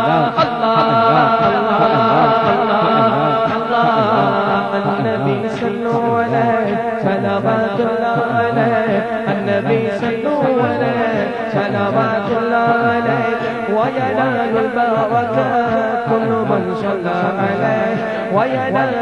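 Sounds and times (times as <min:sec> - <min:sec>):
layered voices singing: 0:00.0 - 0:19.0.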